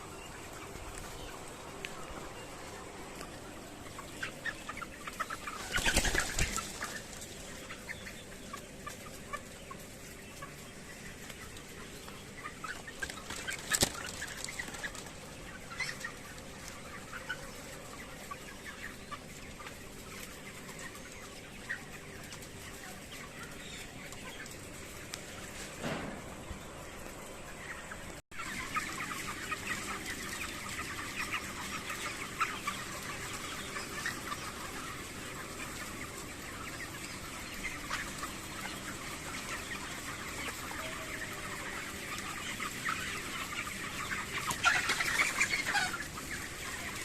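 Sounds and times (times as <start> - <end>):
chickens clucking: 0.0 - 47.0.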